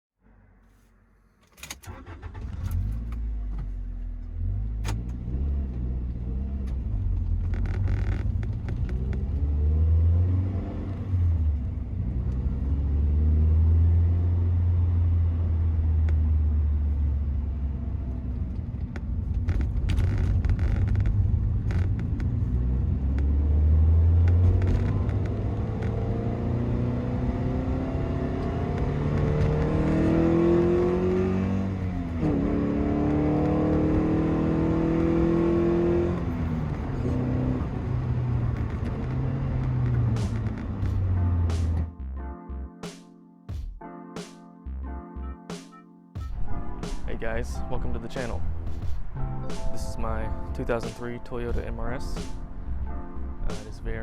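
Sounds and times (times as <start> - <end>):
car engine rumbling: 0.3 - 42.0, 46.3 - 54.0.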